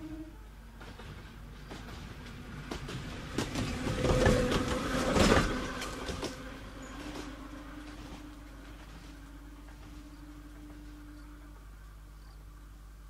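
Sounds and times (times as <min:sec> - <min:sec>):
train wheels clattering over rail joints: 0:00.6 - 0:11.2.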